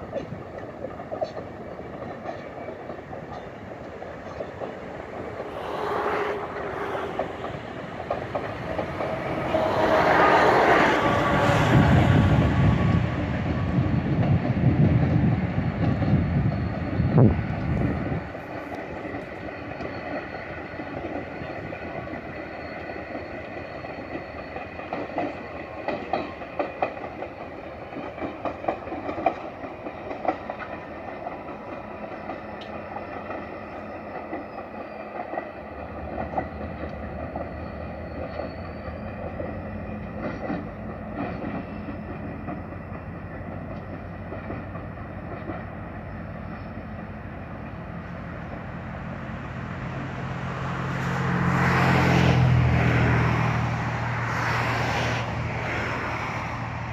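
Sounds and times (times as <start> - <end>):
wheels clicking over rail joints: 0.0 - 5.6, 6.4 - 48.6
locomotive rumble: 0.0 - 56.9.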